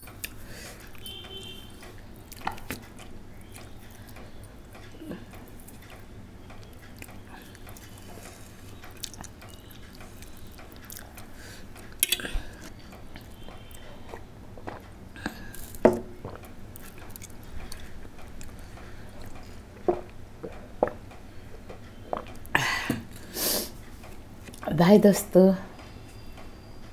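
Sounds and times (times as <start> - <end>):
person chewing: 0.1 - 6.0, 6.6 - 23.3.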